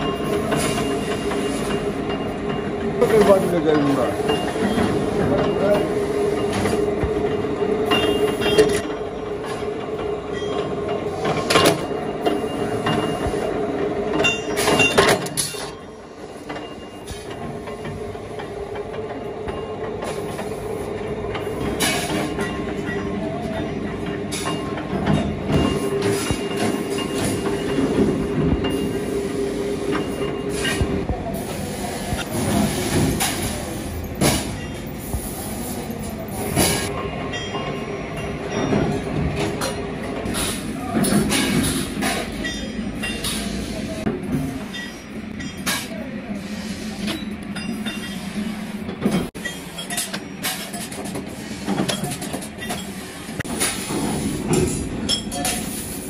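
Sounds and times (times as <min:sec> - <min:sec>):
workshop machinery running: 0:00.0 - 0:56.0.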